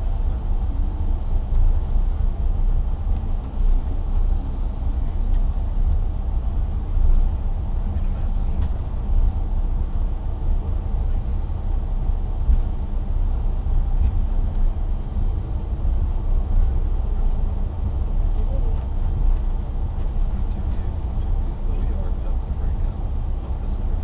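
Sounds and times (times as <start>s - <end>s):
vehicle cabin rumble: 0.0s - 24.0s.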